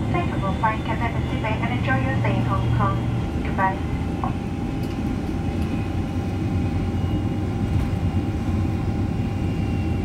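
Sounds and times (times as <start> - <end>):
aircraft cabin low rumble: 0.0 - 10.0.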